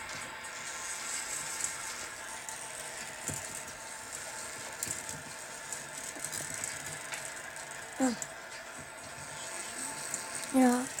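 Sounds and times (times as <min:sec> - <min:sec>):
clock gears clicking and ratcheting: 0:00.0 - 0:11.0.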